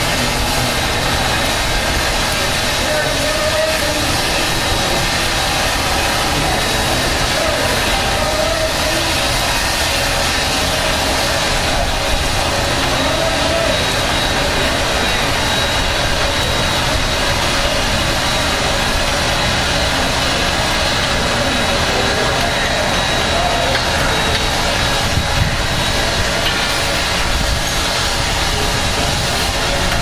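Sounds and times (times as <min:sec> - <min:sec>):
steam locomotive rumble and hiss: 0:00.0 - 0:30.0.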